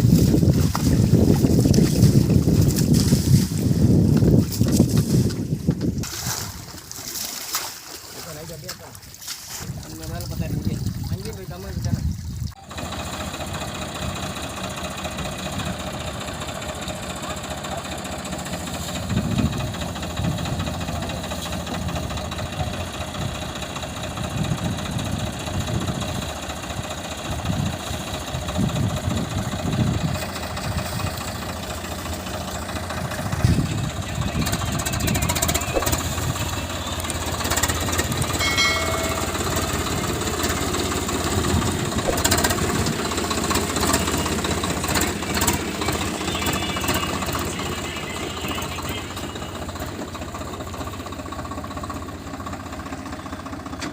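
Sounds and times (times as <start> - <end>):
tractor diesel engine idling: 0.0 - 6.0, 12.6 - 53.9.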